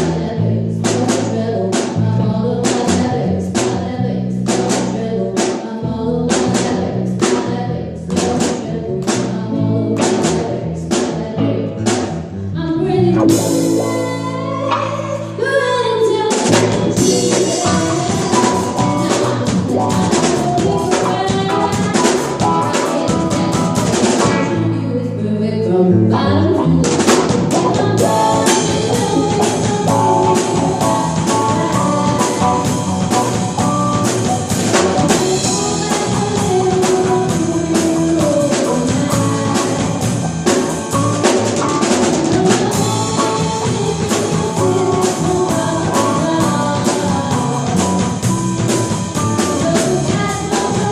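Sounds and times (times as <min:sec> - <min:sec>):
live band playing pop: 0:00.0 - 0:12.4, 0:13.0 - 0:25.3, 0:26.1 - 0:50.9.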